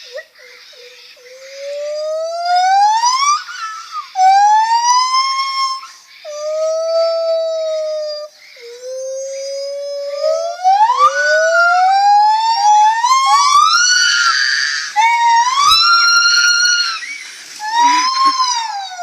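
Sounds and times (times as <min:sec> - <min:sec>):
gibbon whooping hoots: 0:01.6 - 0:19.0.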